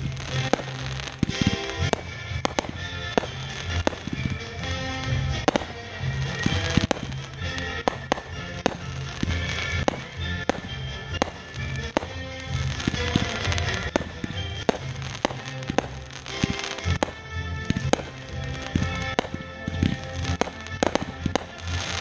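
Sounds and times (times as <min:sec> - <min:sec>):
fireworks bangs and crackles: 0:00.0 - 0:22.0
music with pulsing bass: 0:00.0 - 0:22.0.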